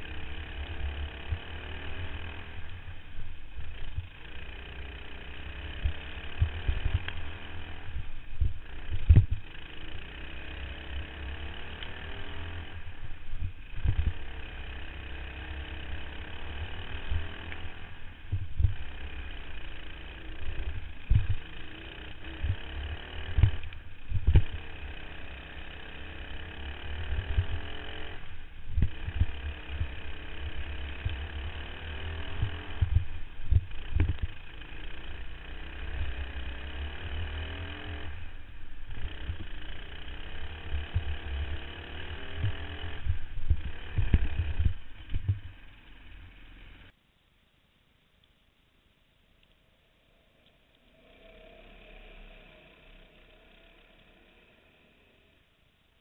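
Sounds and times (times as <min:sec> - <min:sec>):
low rumble with thumps: 0:00.0 - 0:47.0
racing kart engine: 0:00.0 - 0:47.0, 0:50.8 - 0:56.0.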